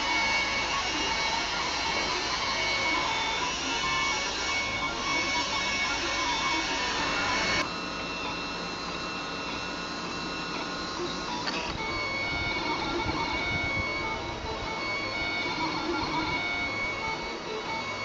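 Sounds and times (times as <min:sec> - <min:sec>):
three d printer motors whining: 0:00.0 - 0:18.0.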